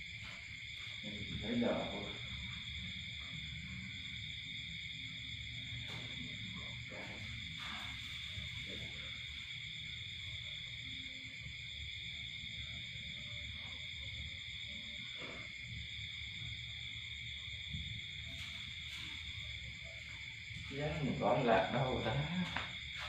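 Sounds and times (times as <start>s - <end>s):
night insects chorus: 0.0s - 23.0s.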